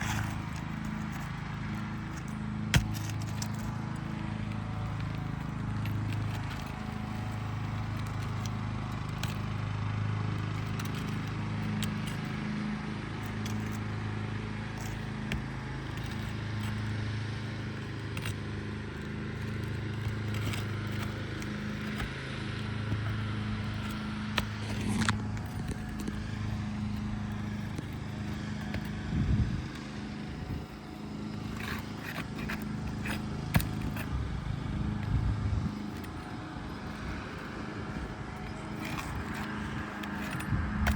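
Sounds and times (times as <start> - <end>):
low droning hum: 0.0 - 40.9
pry tool scraping shingles: 0.0 - 40.9.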